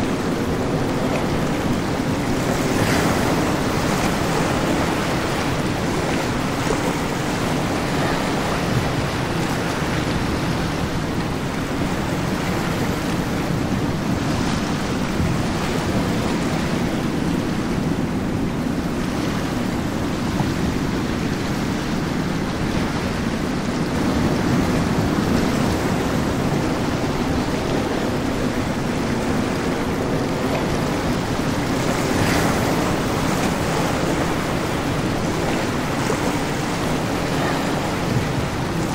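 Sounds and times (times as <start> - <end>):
motorboats running through water: 0.0 - 38.9
waves rushing: 0.0 - 38.9
wind on microphone: 0.0 - 38.9.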